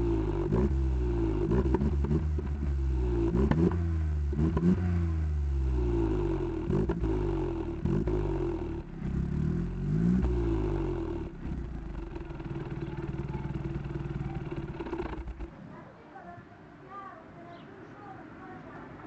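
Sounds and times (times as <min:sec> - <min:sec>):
car engine revving and idling: 0:00.0 - 0:15.5.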